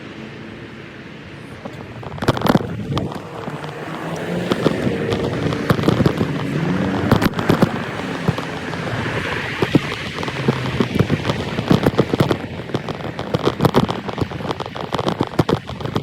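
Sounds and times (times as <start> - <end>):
exhaust cracks and pops: 1.3 - 16.0
motorcycle engine running: 1.4 - 16.0.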